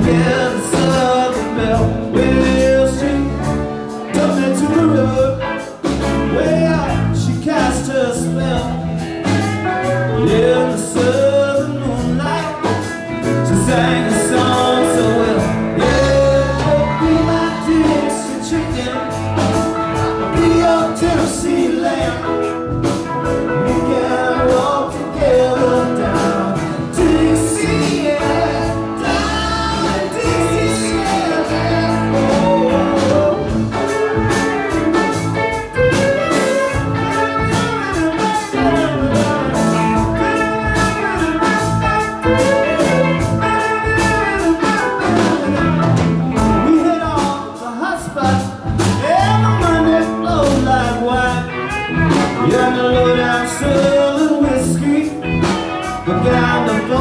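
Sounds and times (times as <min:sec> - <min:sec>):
drums: 0:00.0 - 0:57.0
electric guitars: 0:00.0 - 0:57.0
organ: 0:00.0 - 0:57.0
vocals: 0:00.0 - 0:57.0.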